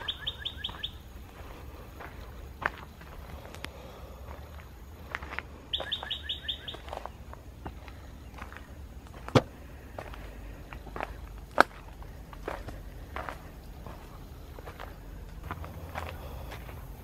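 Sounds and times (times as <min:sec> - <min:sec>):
outdoor ambience: 0:00.0 - 0:17.0
songbird chirping: 0:00.0 - 0:17.0.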